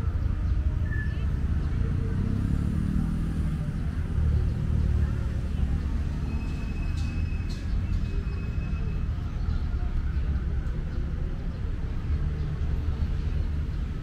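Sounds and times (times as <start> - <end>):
distant city traffic rumble: 0.0 - 14.0
faint voices: 0.0 - 14.0.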